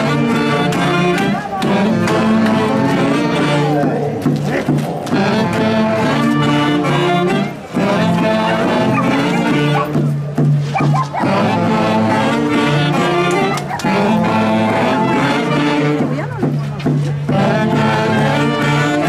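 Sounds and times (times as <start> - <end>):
wind instruments playing melody: 0.0 - 19.0.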